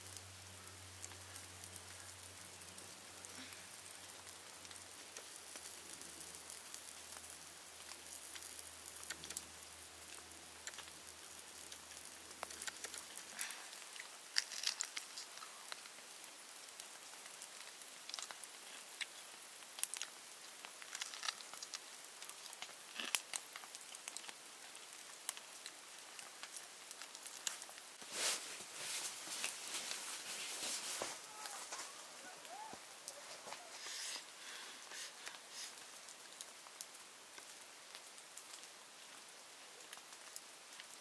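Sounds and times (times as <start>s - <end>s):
campfire crackling: 0.0s - 41.0s
fire popping: 0.0s - 41.0s.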